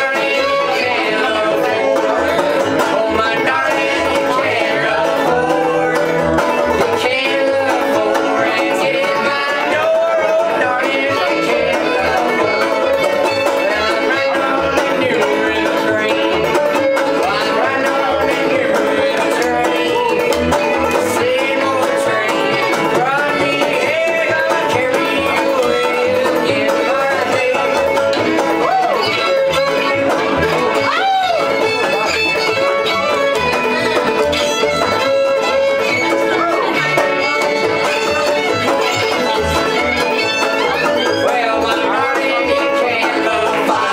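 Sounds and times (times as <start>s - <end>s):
banjo: 0.0s - 43.9s
fiddle: 0.0s - 43.9s
plucked upright bass: 0.0s - 43.9s.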